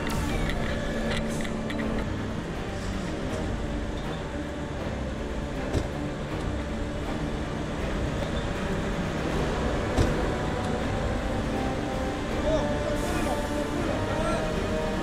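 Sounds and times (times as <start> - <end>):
fire engine motor droning: 0.0 - 15.0.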